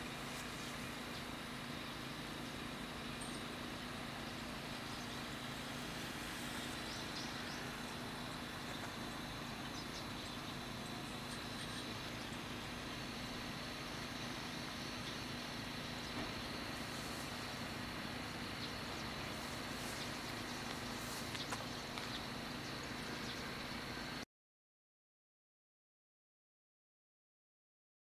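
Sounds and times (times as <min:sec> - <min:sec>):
low hum: 0:00.0 - 0:24.2.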